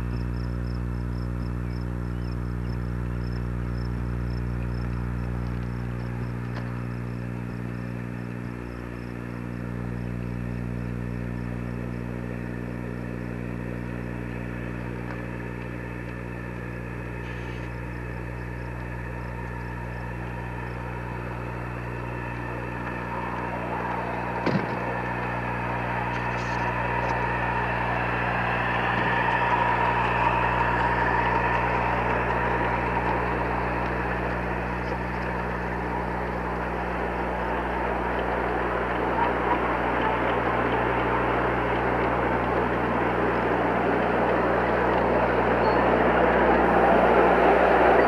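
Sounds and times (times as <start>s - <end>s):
low hum: 0.0s - 48.0s
miniature steam locomotive running: 0.0s - 48.0s.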